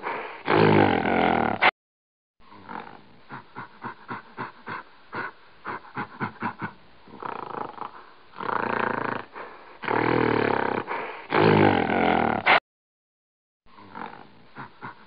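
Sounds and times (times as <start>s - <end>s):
gorilla grunting: 0.4s - 1.7s, 2.5s - 12.6s, 13.8s - 15.0s.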